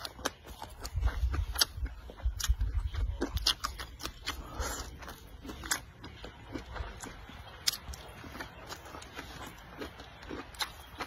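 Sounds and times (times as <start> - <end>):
chewing crunchy vegetable: 0.0 - 11.0.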